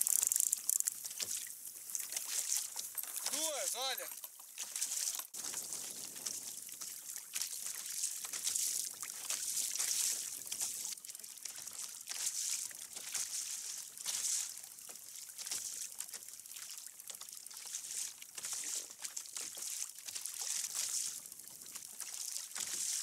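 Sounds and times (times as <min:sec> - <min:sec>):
water lapping against kayak hull: 0:00.0 - 0:23.0.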